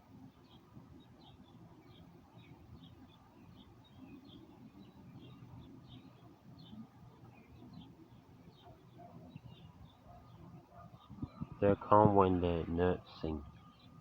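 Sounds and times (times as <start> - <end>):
low background noise: 0.0 - 14.0
small bird chirping: 0.2 - 11.6.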